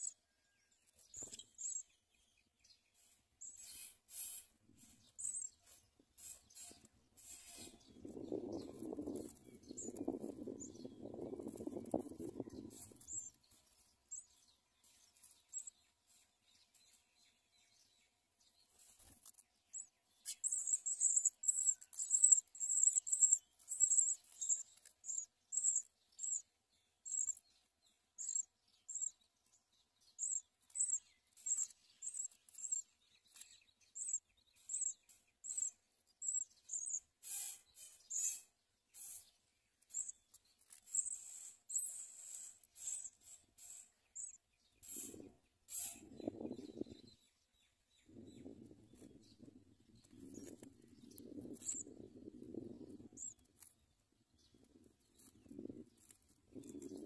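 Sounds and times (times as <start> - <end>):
nestling birds peeping: 0.0 - 57.0.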